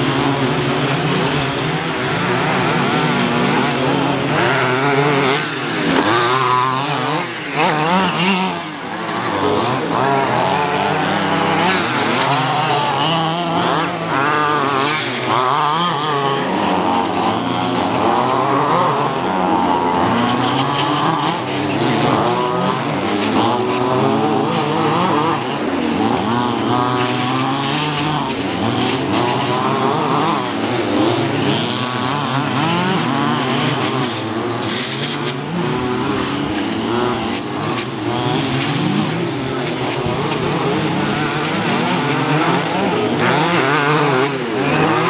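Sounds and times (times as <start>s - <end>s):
rc car engines buzzing and revving: 0.0s - 45.0s.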